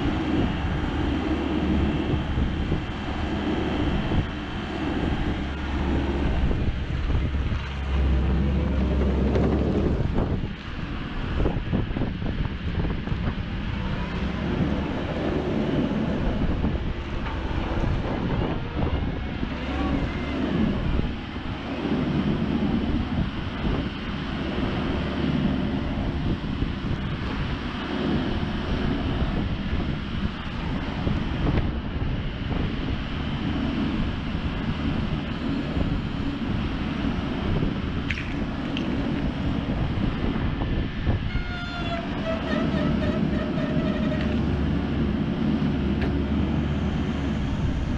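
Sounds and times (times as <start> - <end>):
excavator diesel engine running: 0.0 - 47.9
wind buffeting microphone: 0.0 - 47.9.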